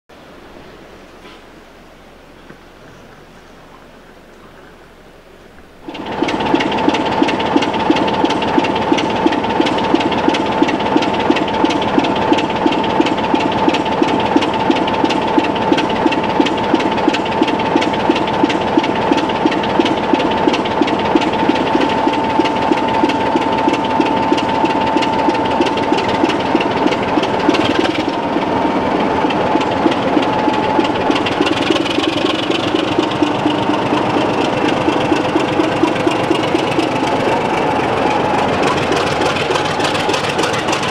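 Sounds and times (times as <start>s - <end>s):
diesel locomotive engine idling: 5.7s - 40.9s.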